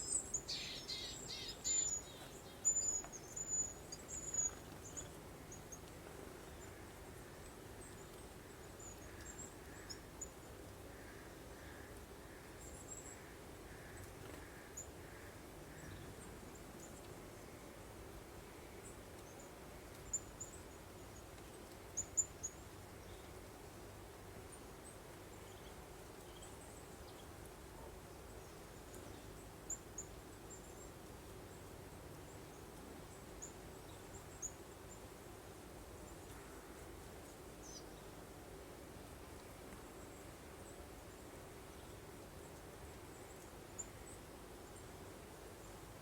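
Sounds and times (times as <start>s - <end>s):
faint breeze hiss: 0.0s - 46.0s.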